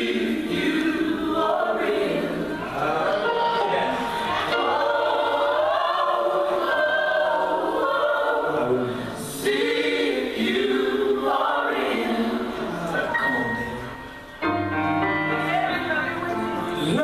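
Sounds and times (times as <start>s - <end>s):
choir singing gospel song: 0.0s - 13.8s.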